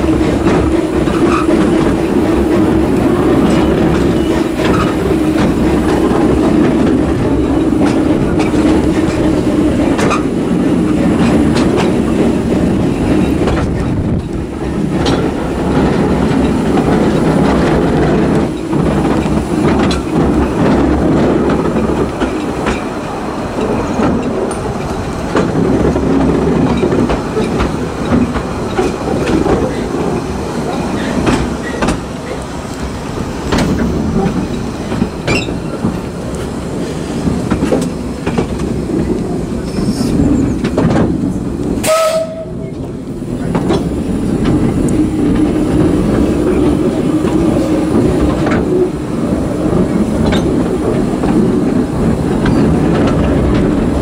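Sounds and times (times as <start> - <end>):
train carriages rumbling: 0.0 - 54.0
wheels clicking on track: 0.0 - 54.0.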